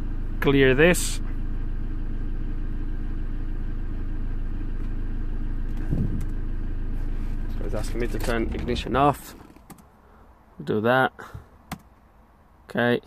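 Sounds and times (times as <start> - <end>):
diesel engine idling: 0.0 - 12.6.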